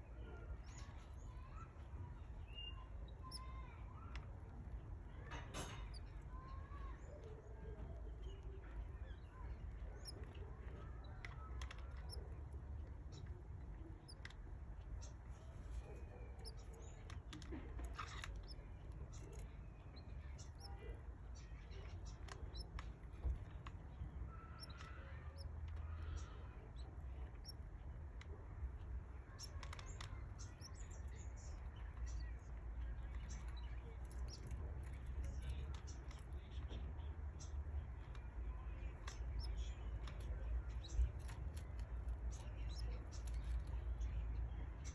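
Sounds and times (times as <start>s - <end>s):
chicks cheeping softly: 0.0s - 44.9s
low background rumble: 0.0s - 44.9s.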